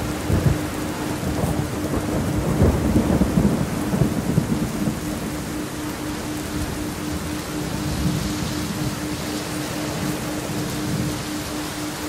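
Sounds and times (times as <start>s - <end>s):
low rumbling thunder: 0.0s - 11.8s
steady rain: 0.0s - 12.0s.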